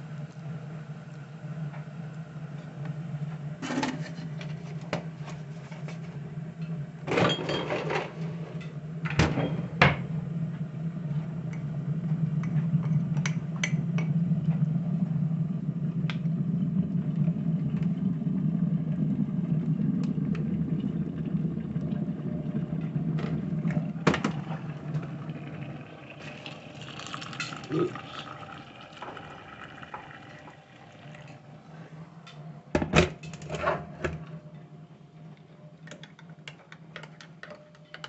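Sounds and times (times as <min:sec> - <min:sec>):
low appliance hum: 0:00.0 - 0:38.0.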